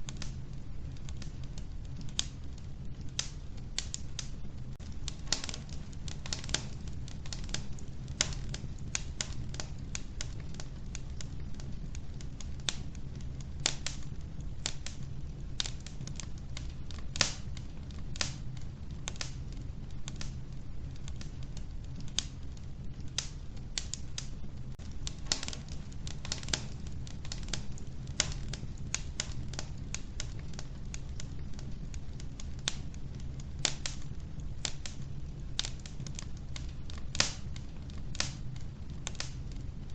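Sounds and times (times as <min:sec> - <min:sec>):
low rumble of burning: 0:00.0 - 0:39.9
wood fire crackling: 0:00.0 - 0:39.9.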